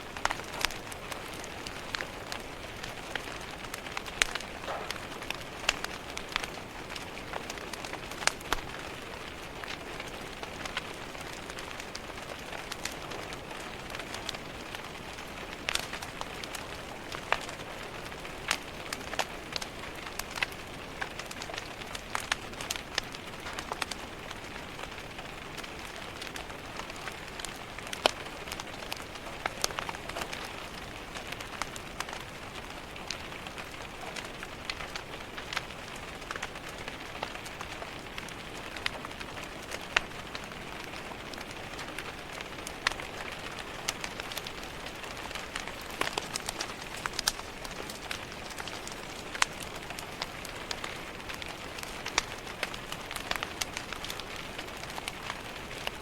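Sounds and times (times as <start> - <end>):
fire crackling: 0.0 - 56.0
rain tapping on window glass: 0.1 - 56.0.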